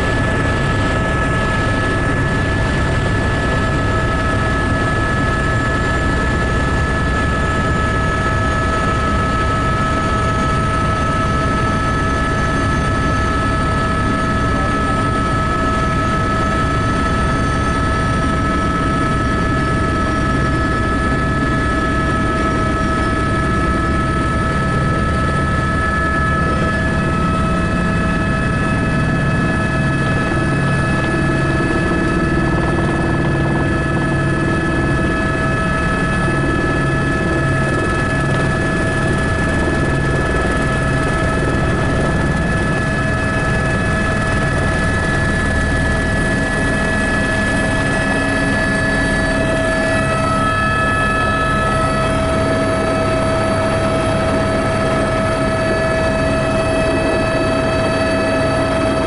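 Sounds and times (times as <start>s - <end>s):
helicopter rotor drone: 0.0s - 59.0s
high engine whine: 0.0s - 59.0s.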